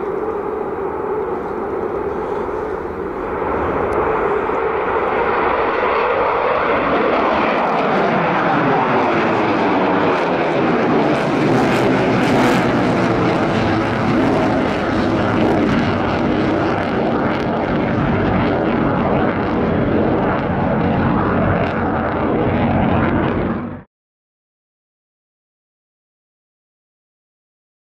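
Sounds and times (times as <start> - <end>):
fighter jet engine roar: 0.0 - 23.9.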